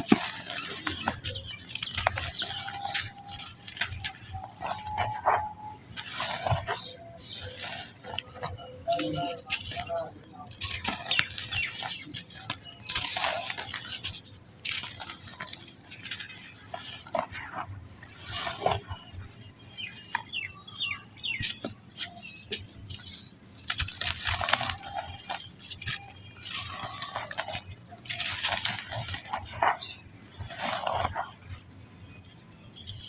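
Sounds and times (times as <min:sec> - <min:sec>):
sand crunching and trickling: 0:00.0 - 0:33.0.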